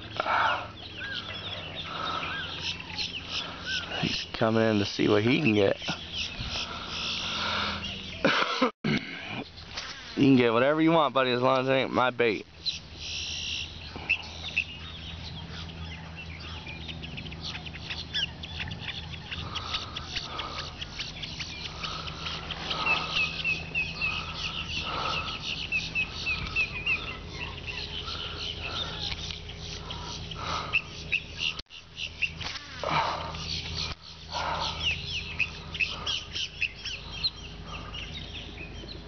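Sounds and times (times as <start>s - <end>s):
low hum: 0.0s - 10.2s, 12.4s - 39.0s
marsh birds chirping: 0.0s - 39.0s.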